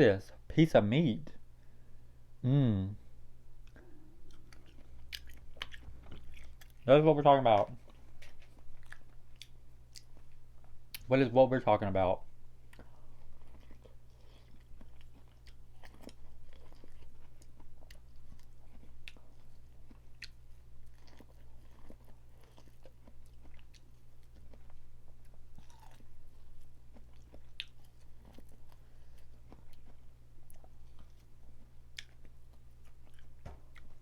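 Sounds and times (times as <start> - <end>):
person chewing: 3.6 - 6.9, 7.7 - 11.1, 12.6 - 34.0.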